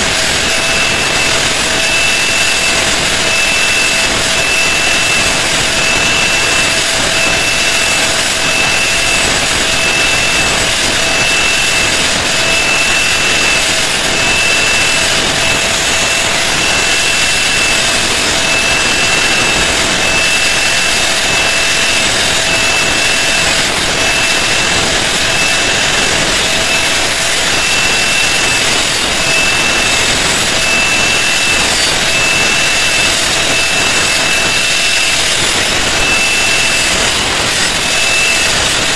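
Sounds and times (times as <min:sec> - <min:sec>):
angle grinder cutting wood: 0:00.0 - 0:38.9.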